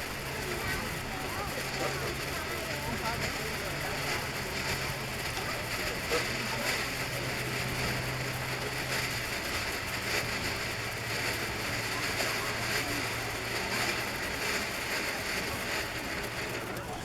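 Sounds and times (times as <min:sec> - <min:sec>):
firework fountain hissing: 0:00.0 - 0:17.0.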